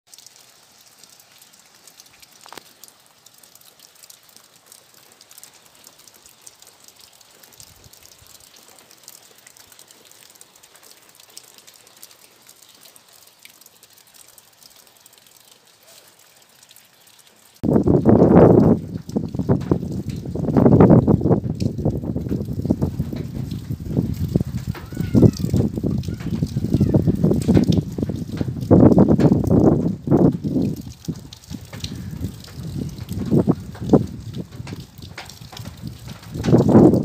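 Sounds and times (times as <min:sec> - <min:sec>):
wet snow and drips pattering: 0:00.1 - 0:37.0.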